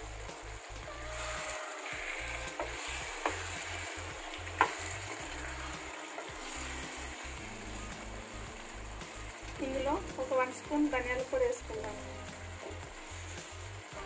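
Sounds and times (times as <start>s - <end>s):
steady sizzle: 0.0s - 14.0s.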